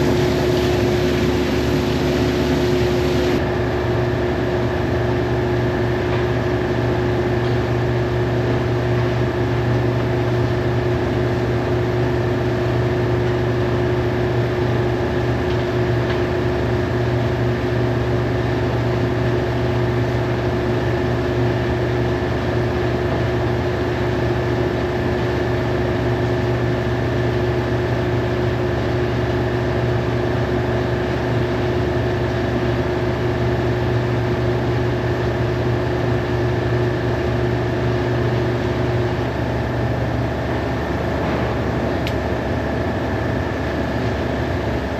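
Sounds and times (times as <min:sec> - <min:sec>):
washing machine motor hum: 0:00.0 - 0:44.9.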